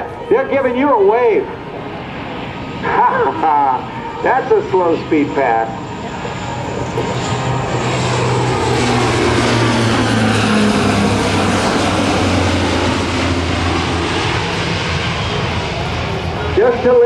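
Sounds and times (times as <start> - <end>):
turboprop aircraft engines droning: 0.0 - 17.0.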